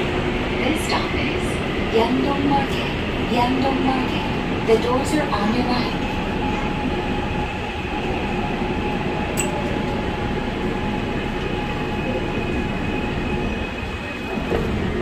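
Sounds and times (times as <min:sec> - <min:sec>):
subway train rumble with motor whine: 0:00.0 - 0:15.0.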